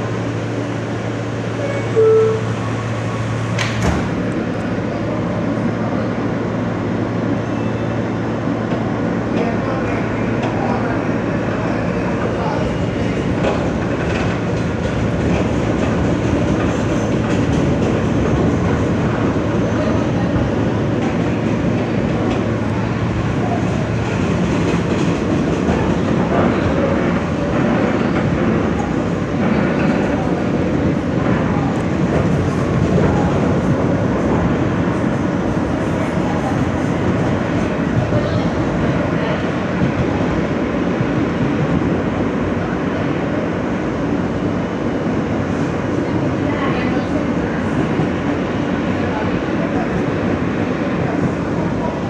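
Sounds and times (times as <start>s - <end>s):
subway car rumbling and rattling: 0.0s - 52.0s.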